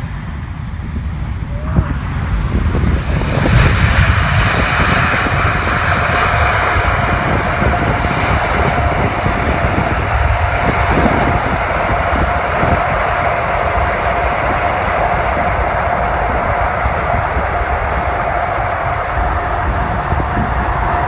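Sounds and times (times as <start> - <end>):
jet engine noise: 0.0 - 21.0
jet engine whine: 0.0 - 21.0
low rumble: 0.0 - 21.0.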